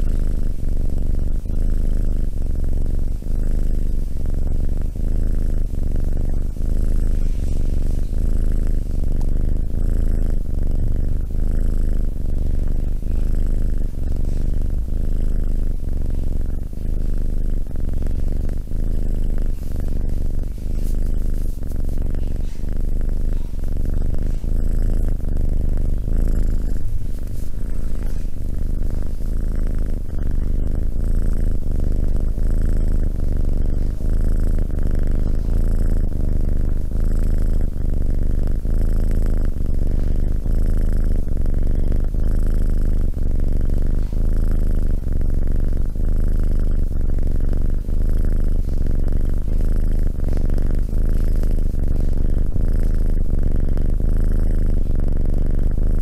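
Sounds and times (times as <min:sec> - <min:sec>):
kitten purring: 0:00.0 - 0:56.0.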